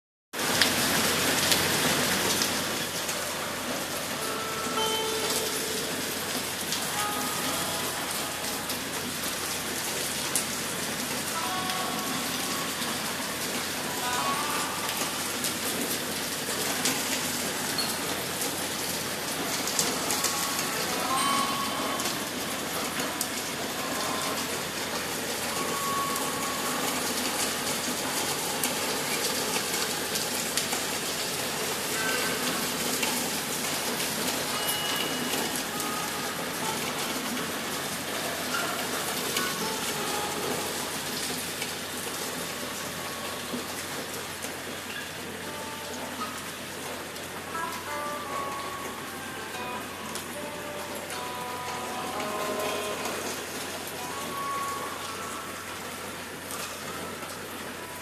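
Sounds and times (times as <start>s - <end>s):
heavy rain on paving: 0.3s - 58.0s.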